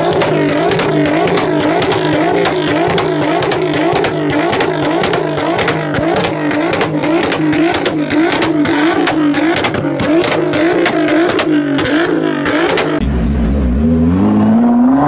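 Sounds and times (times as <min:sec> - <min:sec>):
exhaust pops and bangs: 0:00.0 - 0:13.0
car engine revving: 0:00.0 - 0:15.0.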